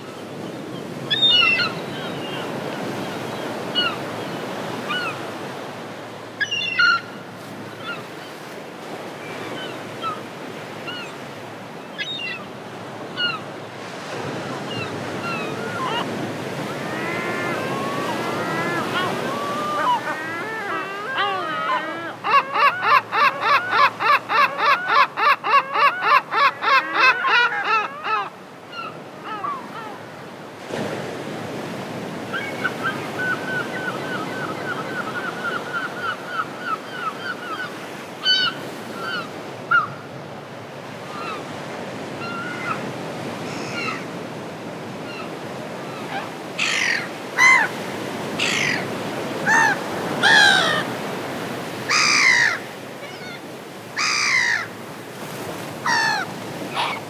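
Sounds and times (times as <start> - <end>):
surf washing: 0.0 - 23.9, 28.5 - 57.0
gulls calling: 0.1 - 30.2, 31.7 - 40.0, 44.9 - 57.0.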